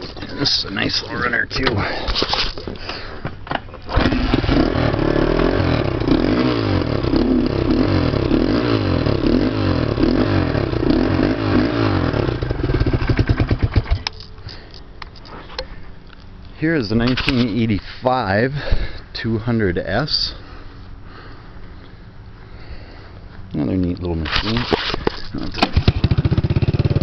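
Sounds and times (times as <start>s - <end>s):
engine running with throttle blips: 0.0s - 17.5s, 18.5s - 27.0s.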